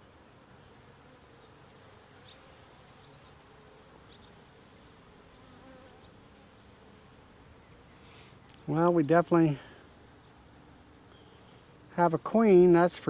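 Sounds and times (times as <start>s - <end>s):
honey bees buzzing: 0.0s - 12.9s.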